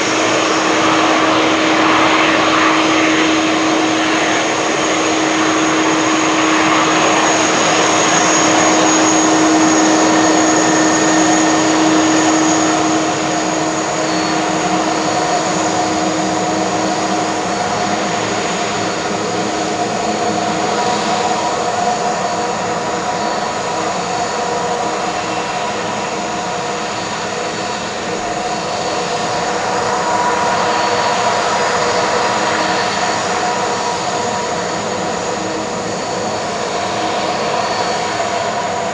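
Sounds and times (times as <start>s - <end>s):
jet engine whine: 0.0s - 38.9s
jet engines roaring: 0.0s - 38.9s.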